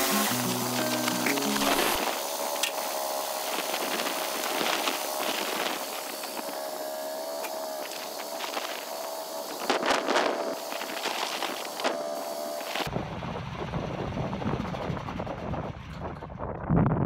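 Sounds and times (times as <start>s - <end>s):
sawmill engine whining: 0.0s - 15.9s.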